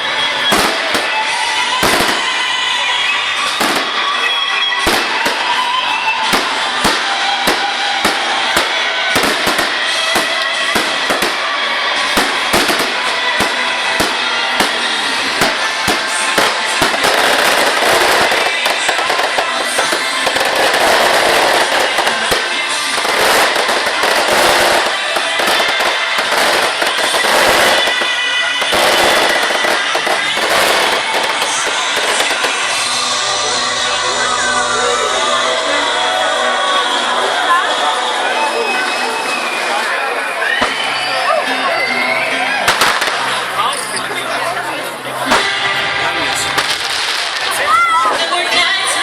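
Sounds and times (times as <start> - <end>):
fireworks banging and crackling: 0.0 - 34.2, 38.6 - 41.9, 42.5 - 49.0.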